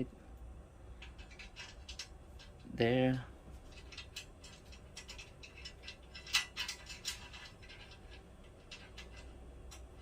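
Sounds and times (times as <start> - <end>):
faint low hum: 0.0 - 10.0
metal parts clicking: 0.9 - 10.0.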